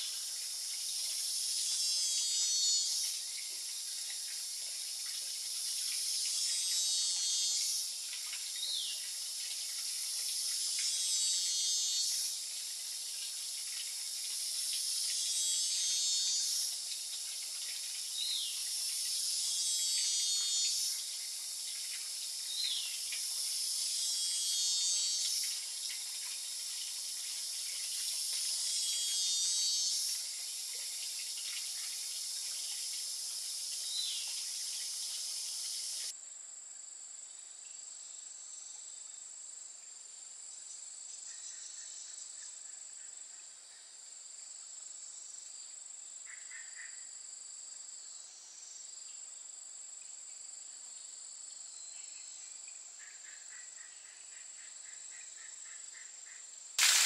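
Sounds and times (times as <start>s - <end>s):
insect chorus buzzing: 0.0s - 36.2s, 36.8s - 57.0s.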